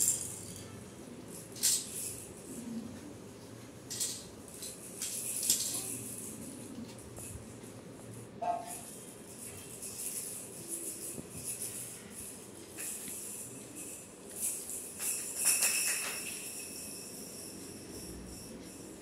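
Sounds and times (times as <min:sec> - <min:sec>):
small bells jingling: 0:00.0 - 0:02.9, 0:03.8 - 0:19.0.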